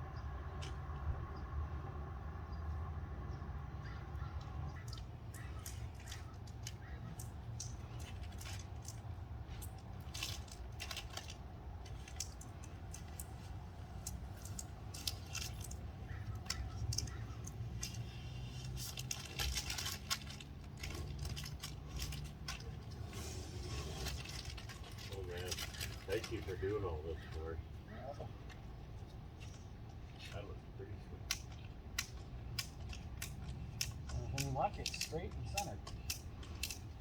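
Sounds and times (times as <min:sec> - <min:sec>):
metallic clicks and rattles of tools: 0:04.4 - 0:26.8, 0:28.4 - 0:37.0.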